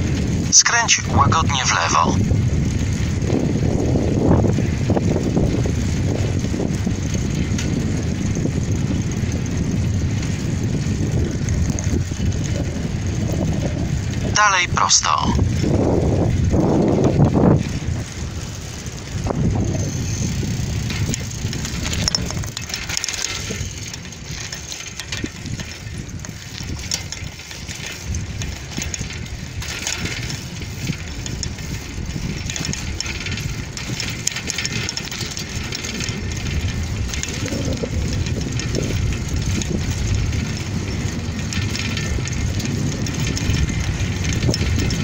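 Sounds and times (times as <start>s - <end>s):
wind on microphone: 0.0s - 45.0s
tyre rumble on rough asphalt: 2.2s - 14.3s, 15.4s - 45.0s
rattles and clicks: 2.3s - 14.5s, 15.1s - 45.0s.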